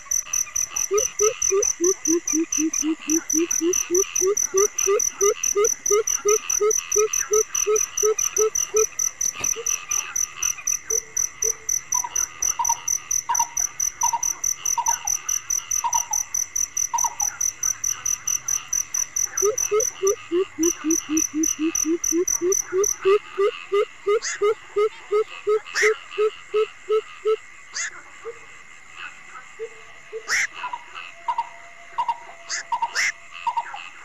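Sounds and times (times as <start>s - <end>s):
crickets chirping: 0.0s - 34.0s
frogs calling: 0.0s - 34.0s.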